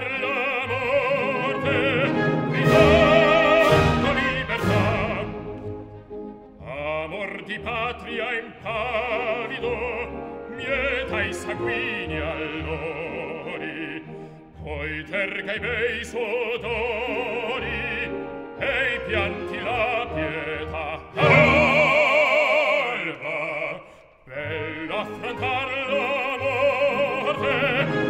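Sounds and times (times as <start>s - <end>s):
full orchestra: 0.0s - 28.0s
male operatic singing: 0.0s - 28.0s.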